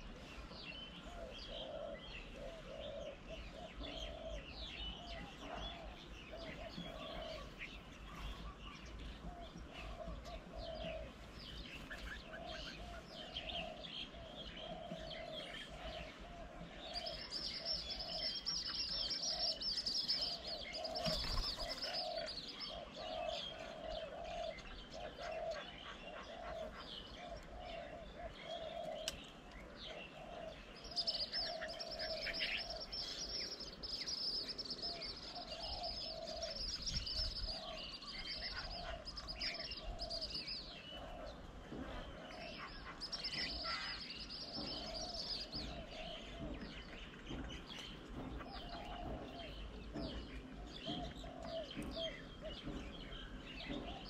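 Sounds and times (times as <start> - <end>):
bird chirps: 0.0 - 54.0
high continuous bird trill: 0.0 - 54.0.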